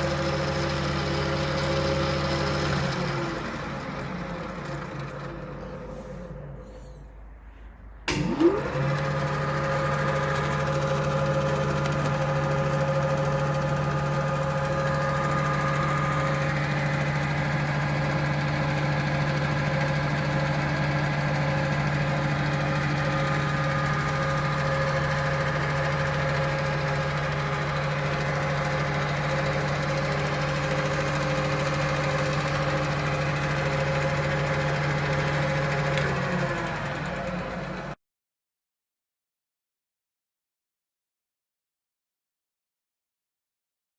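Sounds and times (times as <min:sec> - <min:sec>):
lathe motor whining: 0:00.0 - 0:07.0, 0:08.1 - 0:38.0.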